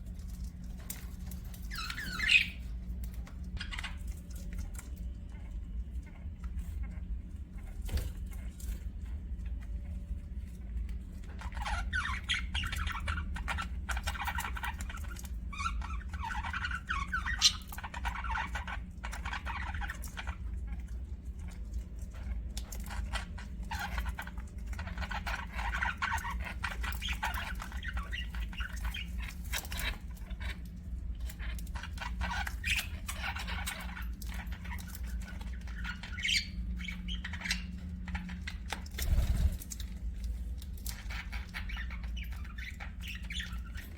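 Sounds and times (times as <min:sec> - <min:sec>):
budgerigars warbling and chattering: 0:00.7 - 0:05.4, 0:11.2 - 0:43.9.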